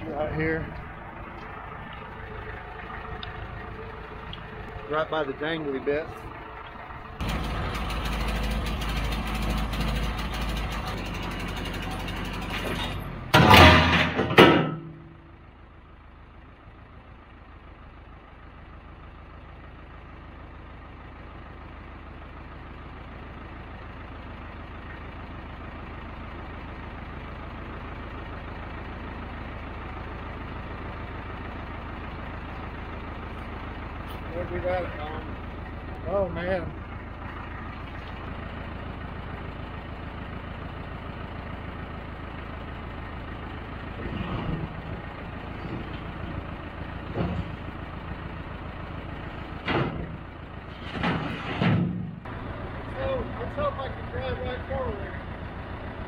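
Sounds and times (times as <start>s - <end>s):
skid steer engine rumbling: 0.0s - 56.0s.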